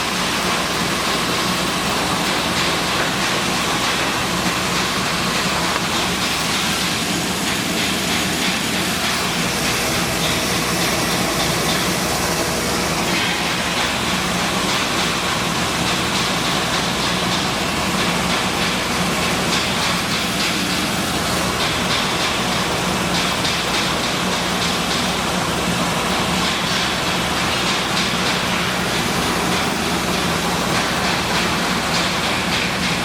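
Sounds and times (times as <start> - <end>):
milling machine running: 0.0 - 33.0.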